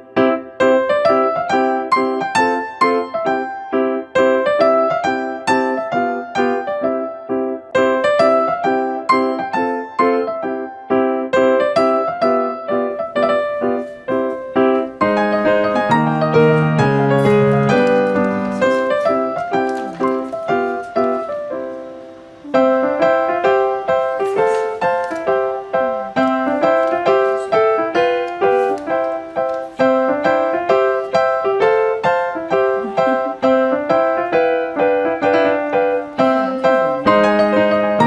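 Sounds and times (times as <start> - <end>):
light piano melody: 0.0 - 38.0.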